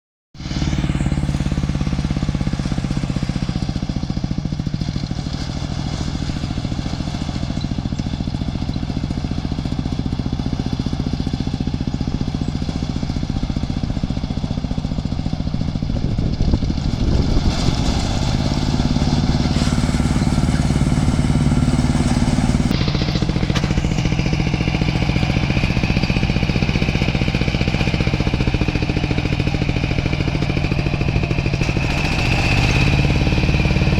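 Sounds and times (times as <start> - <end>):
diesel engine running under load: 0.4 - 33.9.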